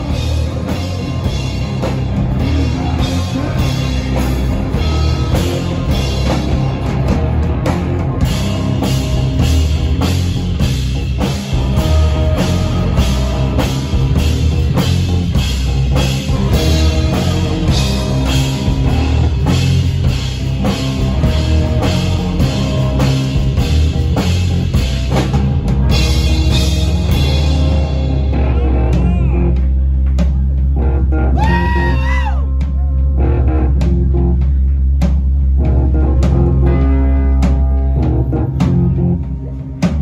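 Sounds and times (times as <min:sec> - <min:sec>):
bass guitar: 0:00.0 - 0:40.0
drum kit beat: 0:00.0 - 0:40.0
electric guitar: 0:00.0 - 0:40.0.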